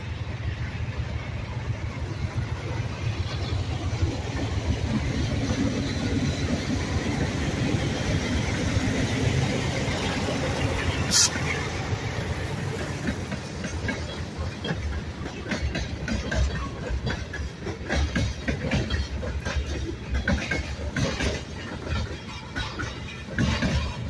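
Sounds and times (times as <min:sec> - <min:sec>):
freight train rumbling past: 0:00.0 - 0:24.0
wheels clunking over rail joints: 0:01.9 - 0:24.0.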